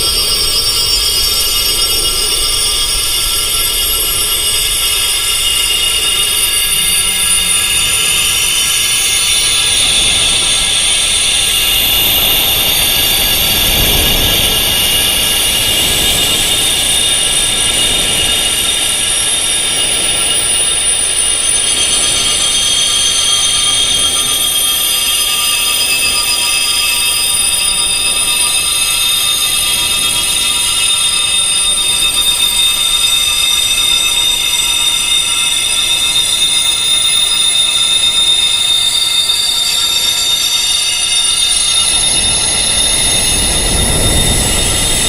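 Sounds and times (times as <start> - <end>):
high-pitched wind chimes ringing: 0.0 - 45.0.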